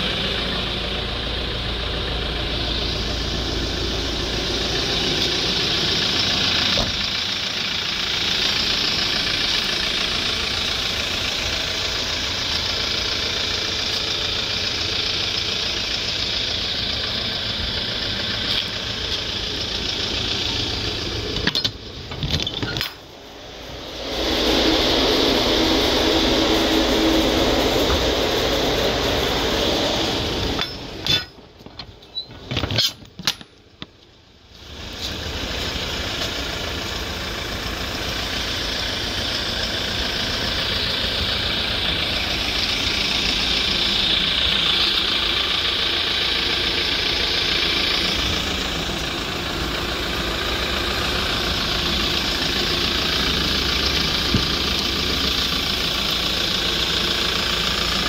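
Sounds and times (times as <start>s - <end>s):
diesel engine idling: 0.0s - 32.2s, 33.2s - 58.0s.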